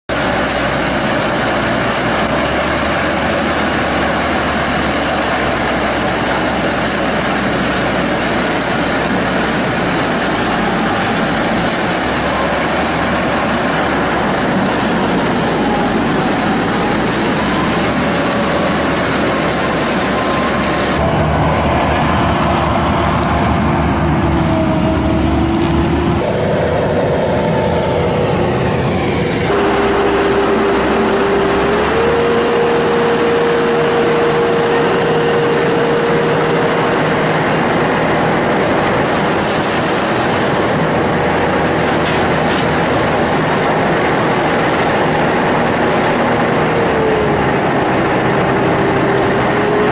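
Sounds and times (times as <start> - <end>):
corn harvester running: 0.0 - 49.9.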